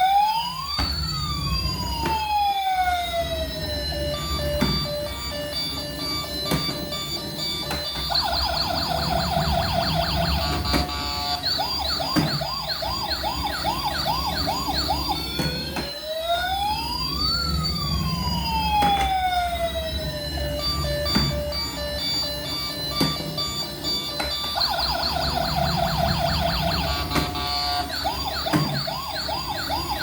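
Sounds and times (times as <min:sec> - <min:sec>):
toy electronic siren: 0:00.0 - 0:30.0.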